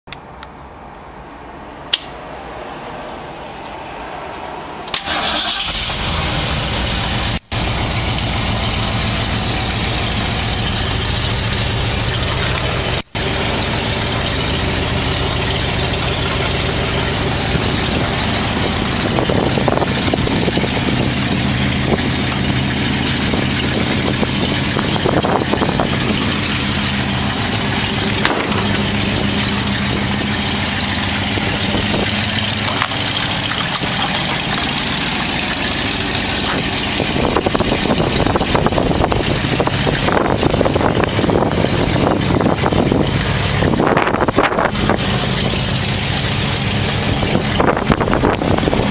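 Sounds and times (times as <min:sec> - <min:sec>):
pickup engine idling: 0:04.8 - 0:48.9.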